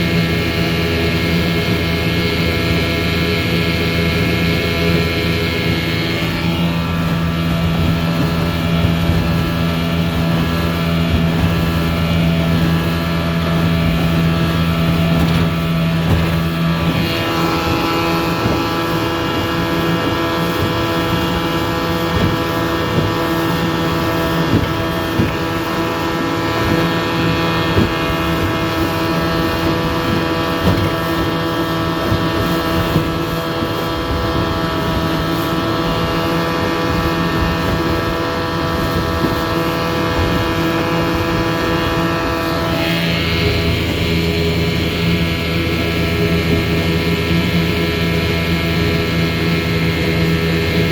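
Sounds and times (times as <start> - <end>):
outboard motor running: 0.0 - 50.9
wind on microphone: 0.0 - 50.9.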